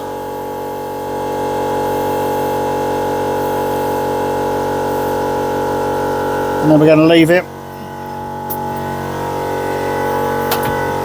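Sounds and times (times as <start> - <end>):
air compressor running: 0.0 - 11.0.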